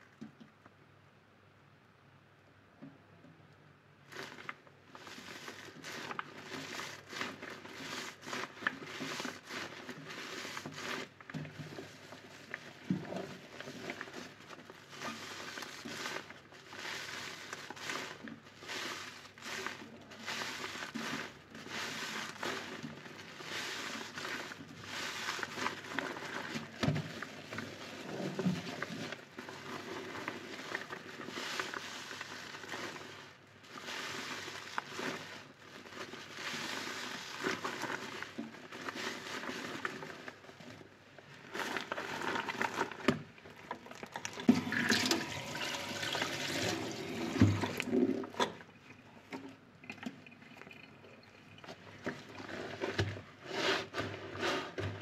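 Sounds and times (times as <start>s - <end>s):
soapy sponge squelching: 4.1s - 55.0s.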